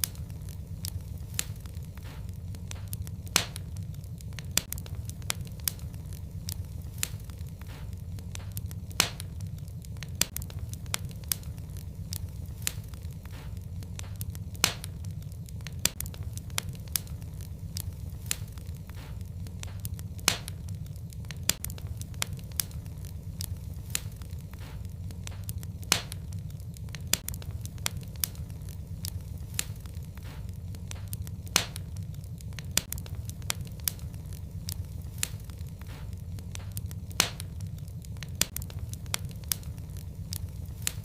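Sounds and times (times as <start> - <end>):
low fire rumble: 0.0 - 41.0
wood fire crackling and popping: 0.0 - 41.0.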